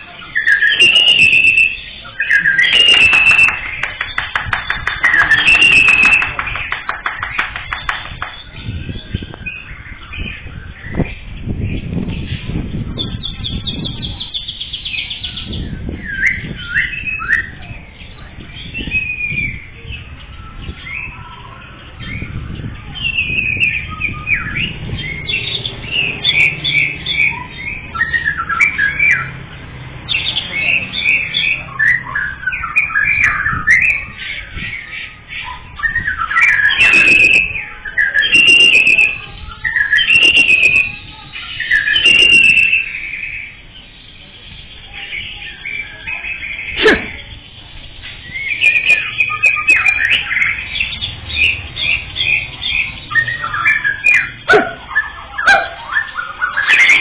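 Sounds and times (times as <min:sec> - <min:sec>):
songbird chirping and whistling: 0:00.0 - 0:29.4, 0:30.1 - 0:57.0.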